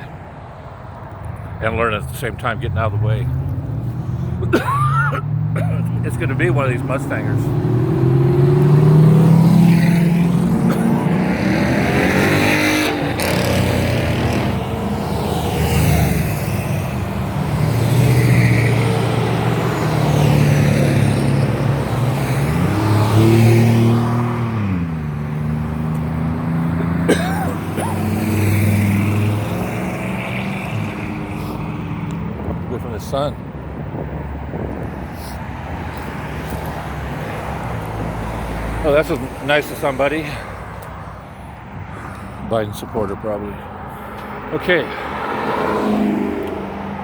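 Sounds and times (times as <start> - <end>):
car engines driving past: 0.0 - 47.0.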